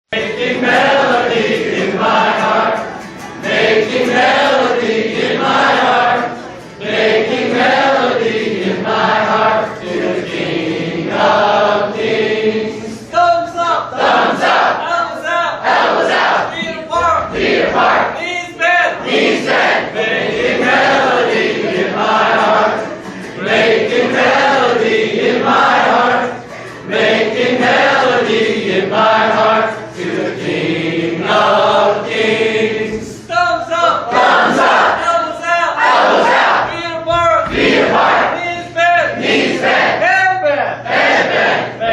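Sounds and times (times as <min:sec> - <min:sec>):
group of people singing: 0:00.1 - 0:40.1, 0:40.8 - 0:41.9.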